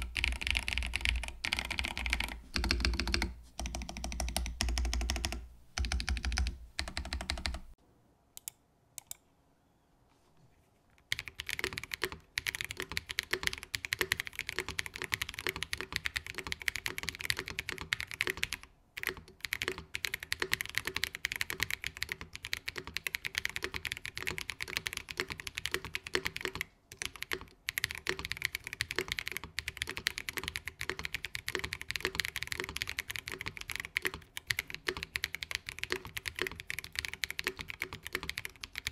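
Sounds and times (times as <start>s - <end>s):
mechanical keyboard typing: 0.0s - 7.8s, 11.1s - 38.9s.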